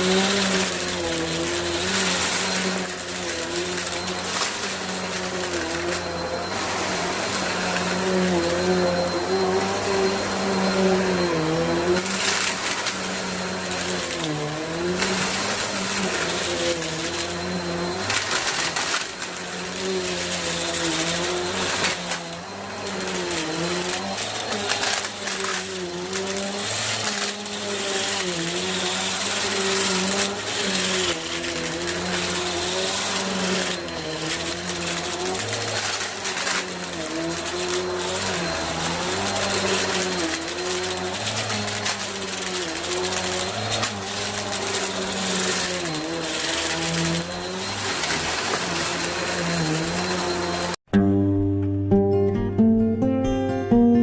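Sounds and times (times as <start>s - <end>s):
vacuum cleaner motor drone: 0.0s - 50.9s.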